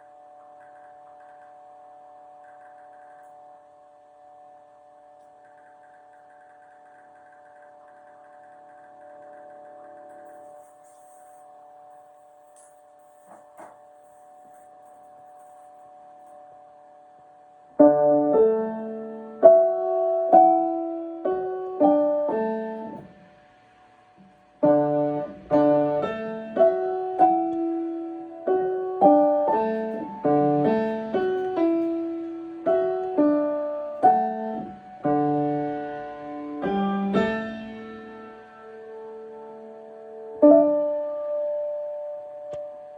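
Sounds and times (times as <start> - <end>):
piano melody over chords: 0.0 - 42.9.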